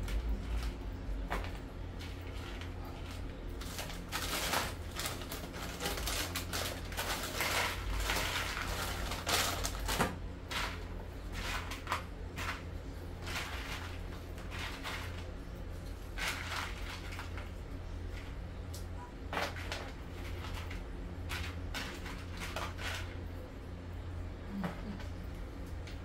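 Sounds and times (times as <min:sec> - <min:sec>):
plastic packaging crinkling: 0:00.0 - 0:18.4, 0:19.3 - 0:23.2
steady low hum: 0:00.0 - 0:26.0.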